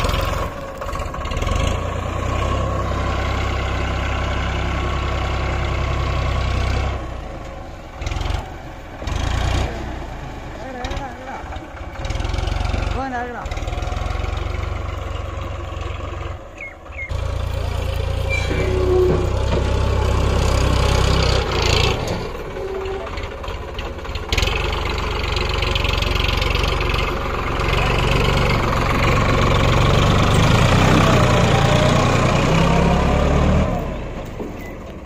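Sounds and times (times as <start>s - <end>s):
diesel engine revving under load: 0.0s - 35.0s.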